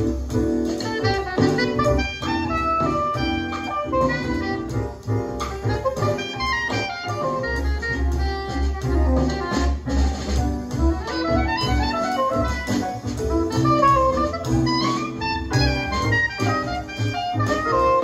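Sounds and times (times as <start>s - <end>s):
double bass: 0.0s - 18.0s
saxophone playing: 0.8s - 9.8s, 10.7s - 18.0s.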